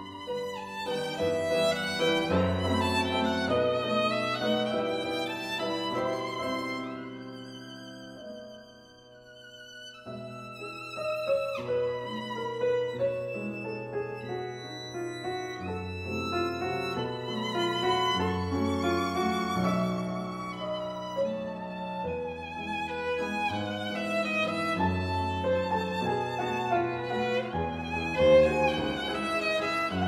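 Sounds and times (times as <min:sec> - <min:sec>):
slow violin melody: 0:00.0 - 0:30.0.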